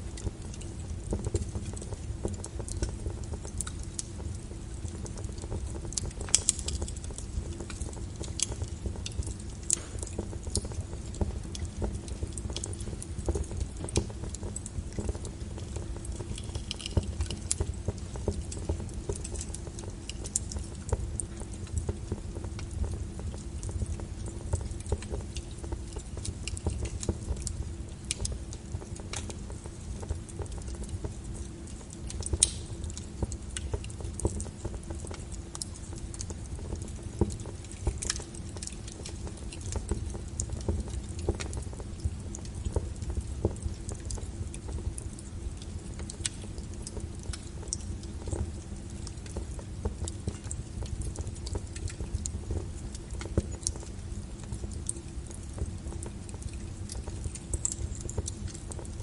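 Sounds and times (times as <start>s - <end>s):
fire crackles and pops: 0.0s - 59.0s
fireplace fire rumble and hiss: 0.0s - 59.0s.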